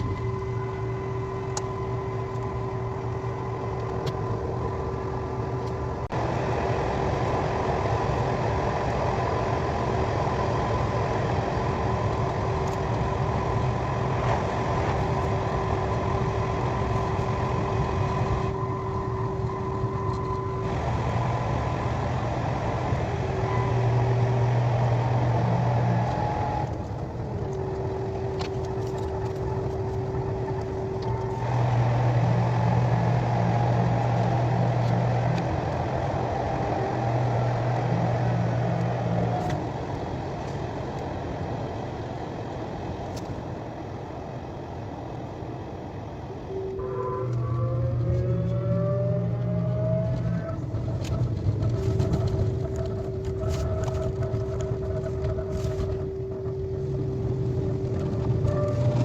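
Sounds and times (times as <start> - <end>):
constant hum and whine: 0.0 - 59.0
train rumble inside carriage: 0.0 - 59.0.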